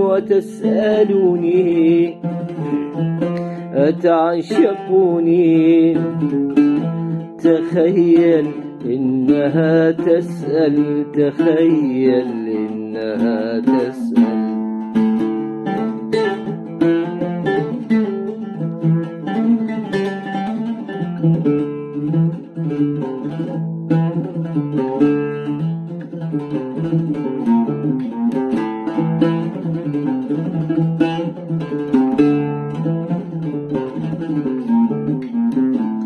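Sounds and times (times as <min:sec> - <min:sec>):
oud plucked melody: 0:00.0 - 0:36.0.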